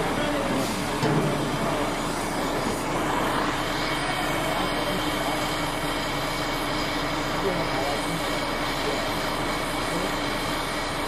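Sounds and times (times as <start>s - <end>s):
welding equipment hum and hiss: 0.0s - 11.0s.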